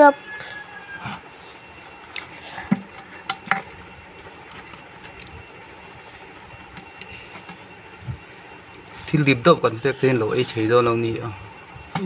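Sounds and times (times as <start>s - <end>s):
crabs clicking and tapping: 1.2s - 12.0s.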